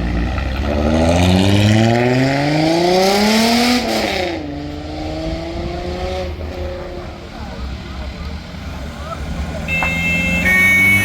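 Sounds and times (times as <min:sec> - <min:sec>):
vehicle engine accelerating: 0:00.0 - 0:11.0.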